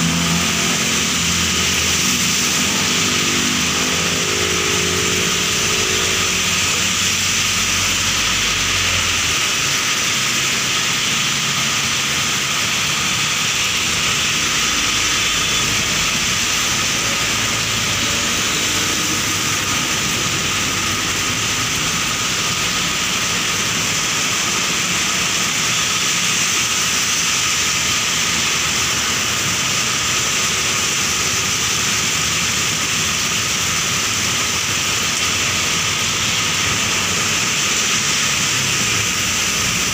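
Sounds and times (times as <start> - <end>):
heavy rain on wet road: 0.0 - 39.9.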